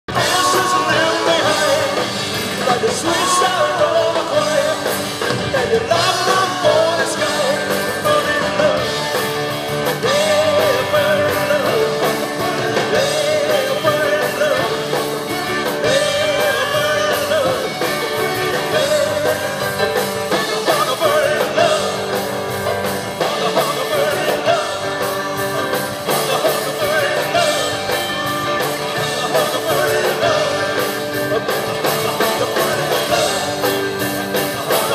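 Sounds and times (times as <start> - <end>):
live band through pa system: 0.0 - 34.9
guitars: 0.1 - 34.9
person singing: 0.1 - 34.9.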